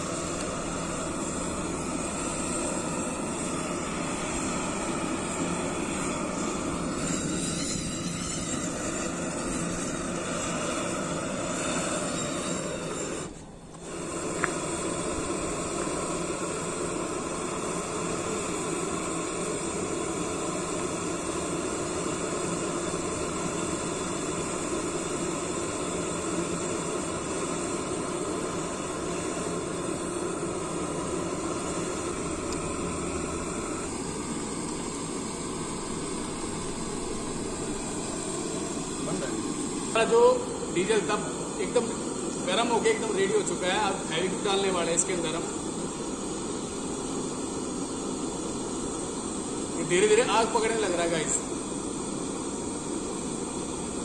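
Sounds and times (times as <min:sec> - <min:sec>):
gas burner hissing: 0:00.0 - 0:54.0.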